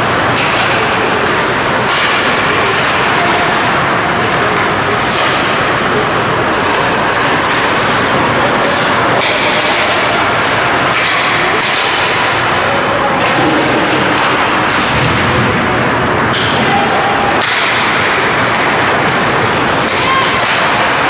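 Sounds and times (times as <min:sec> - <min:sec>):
hockey sticks slapping puck: 0:00.2 - 0:21.0.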